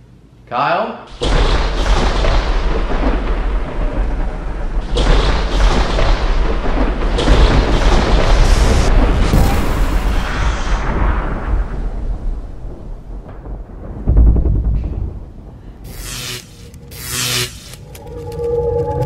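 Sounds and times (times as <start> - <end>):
thunder rumble: 1.1 - 19.0.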